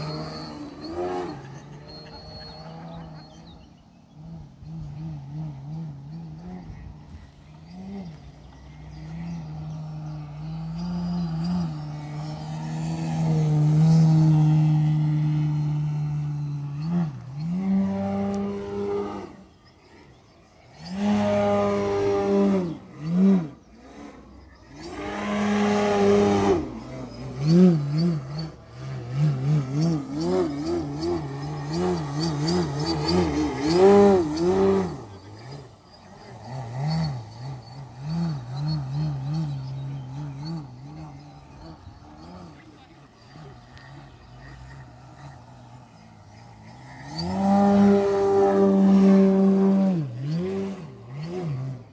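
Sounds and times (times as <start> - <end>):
model plane motor and propeller drone: 0.0 - 51.9.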